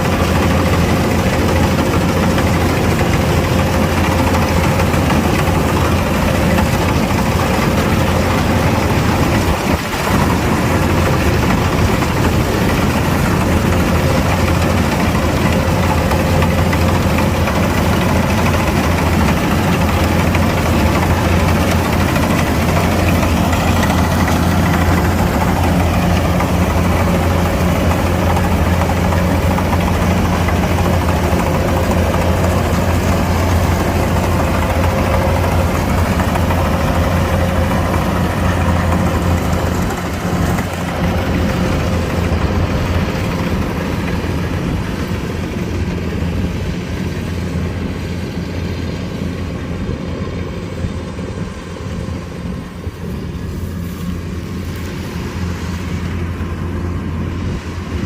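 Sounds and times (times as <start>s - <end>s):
diesel engine running: 0.0s - 58.0s
steady whine: 0.0s - 58.0s.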